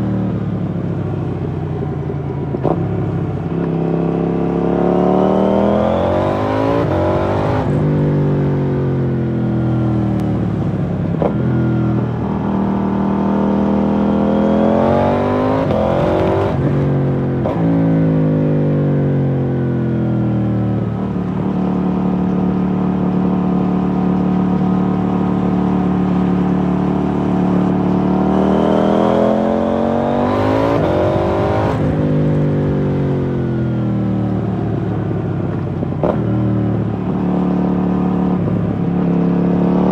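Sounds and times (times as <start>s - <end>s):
motorcycle engine revving: 2.3s - 39.9s.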